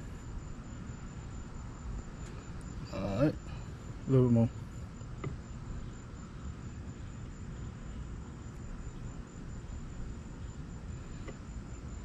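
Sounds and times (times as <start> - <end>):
faint high pulsing chirping: 0.0 - 12.0
low outdoor rumble: 0.0 - 12.0.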